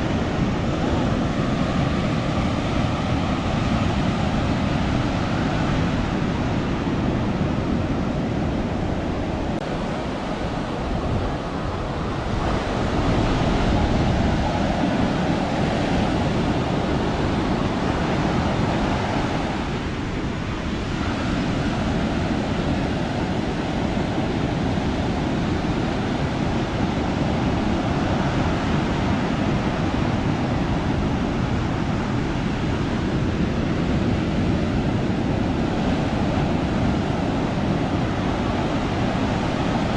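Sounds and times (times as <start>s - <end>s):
ocean surf breaking: 0.0s - 39.9s
wind rumbling on microphone: 0.0s - 39.9s.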